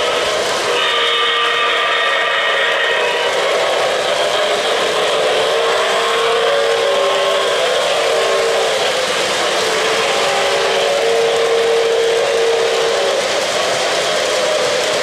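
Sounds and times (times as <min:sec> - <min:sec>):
steam whistle blowing a chord: 0:00.0 - 0:09.1, 0:09.7 - 0:13.2
model train wheels rumbling: 0:00.0 - 0:15.0.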